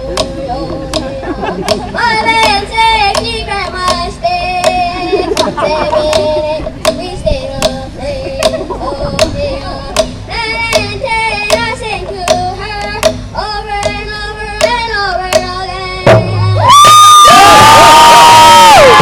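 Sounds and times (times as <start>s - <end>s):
hand drum beating: 0.0s - 16.5s
boy singing into a microphone: 0.0s - 16.7s.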